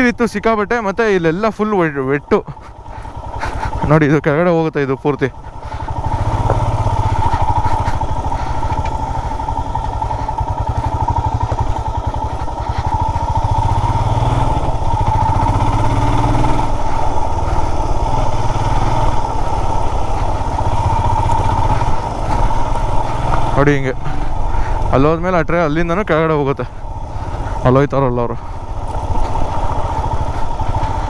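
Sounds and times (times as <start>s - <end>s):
motorcycle engine at low revs: 0.0s - 31.0s.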